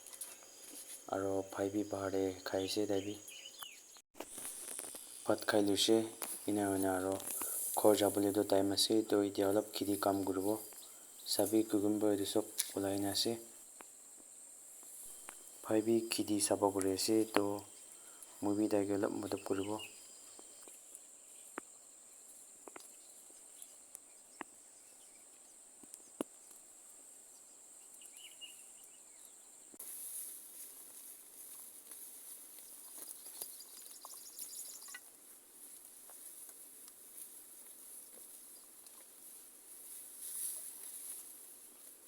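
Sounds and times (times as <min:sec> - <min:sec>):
loud high insect chorus: 0:00.0 - 0:35.2.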